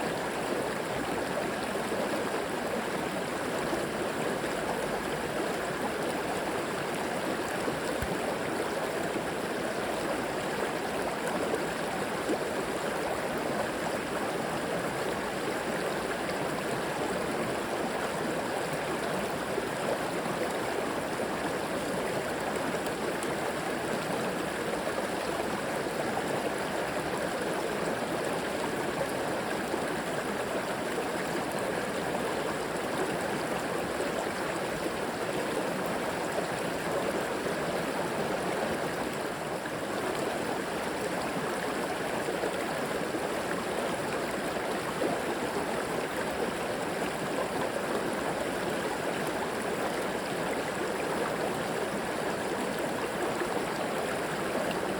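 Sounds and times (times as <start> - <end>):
river water flowing over stones: 0.0 - 54.9.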